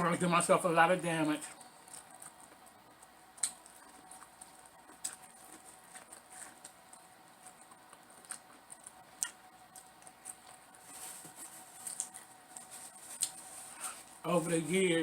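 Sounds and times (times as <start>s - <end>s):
person chewing food: 1.5s - 14.2s.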